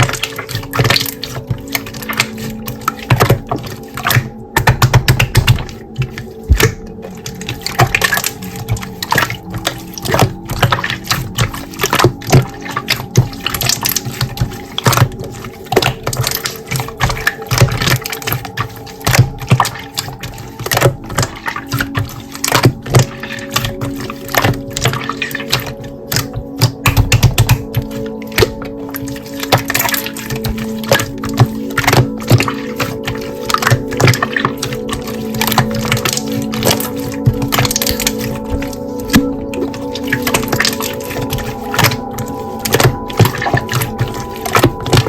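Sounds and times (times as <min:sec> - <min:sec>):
quiet background music: 0:00.0 - 0:45.0
slime squelching by hand: 0:00.0 - 0:45.0.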